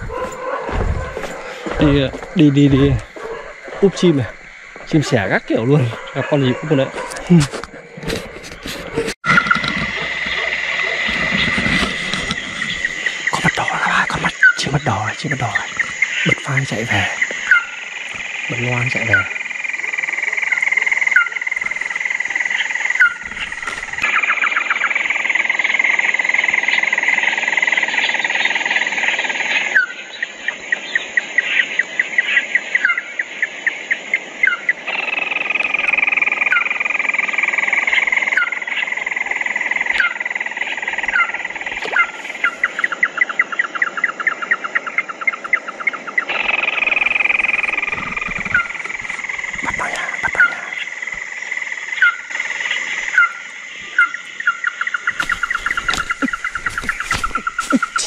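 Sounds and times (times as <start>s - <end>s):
insects and frogs chorus: 0.0s - 58.0s.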